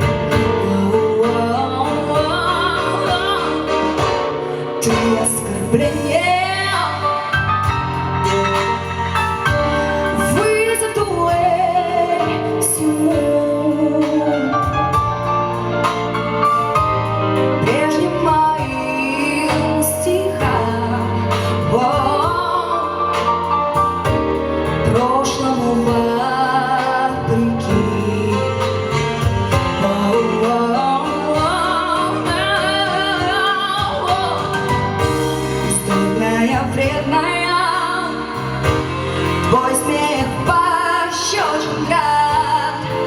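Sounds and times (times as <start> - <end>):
woman singing: 0.0 - 16.1, 16.7 - 43.0
instrumental accompaniment: 0.0 - 43.0.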